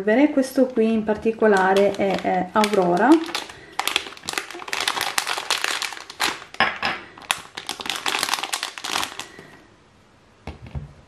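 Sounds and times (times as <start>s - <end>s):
foil pouch crinkling: 0.6s - 9.6s.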